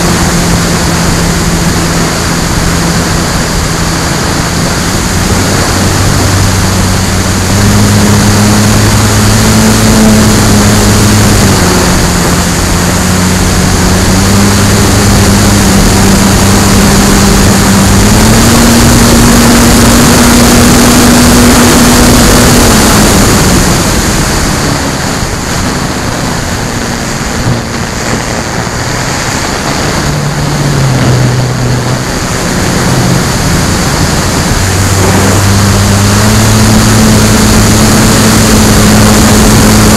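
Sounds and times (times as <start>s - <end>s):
electric motor and propeller hum: 0.0s - 39.9s
wind rush on microphone: 0.0s - 39.9s.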